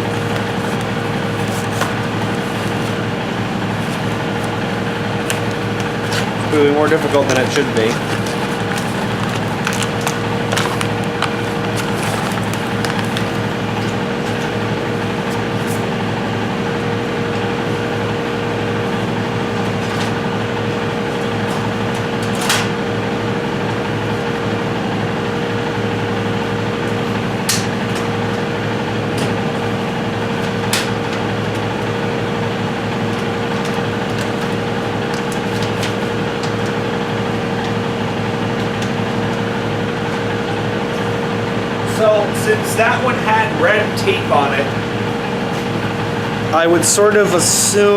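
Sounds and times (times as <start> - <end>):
steady mechanical hum: 0.0 - 47.9.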